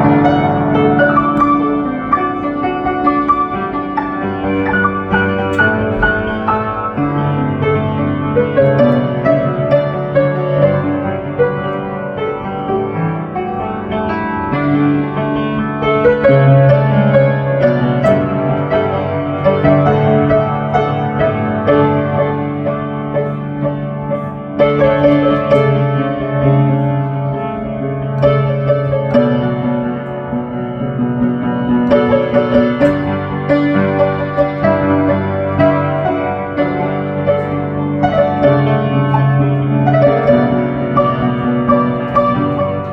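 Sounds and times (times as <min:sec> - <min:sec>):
piano music: 0:00.0 - 0:42.9.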